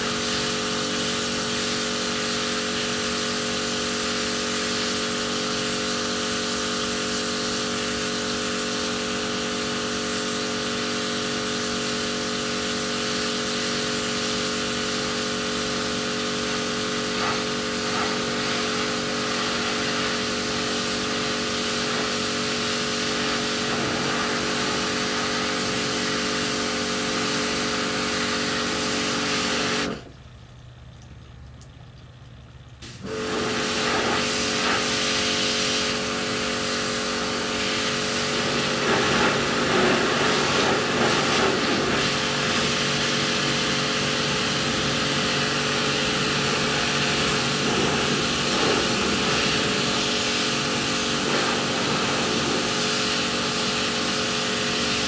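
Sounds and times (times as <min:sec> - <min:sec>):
water jet hissing: 0:00.0 - 0:30.1, 0:32.8 - 0:55.0
pressure washer motor hum: 0:00.0 - 0:55.0.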